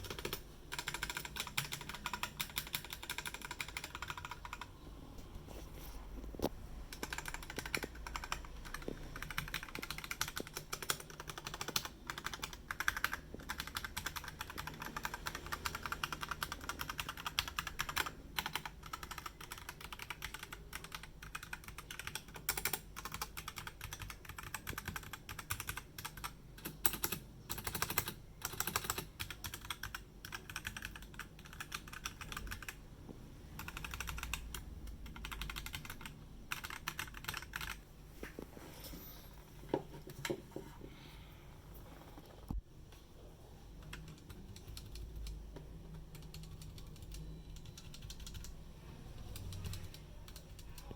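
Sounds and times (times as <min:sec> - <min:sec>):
mechanical keyboard typing: 0:00.0 - 0:04.7, 0:06.9 - 0:32.8, 0:33.5 - 0:37.8, 0:43.8 - 0:50.9.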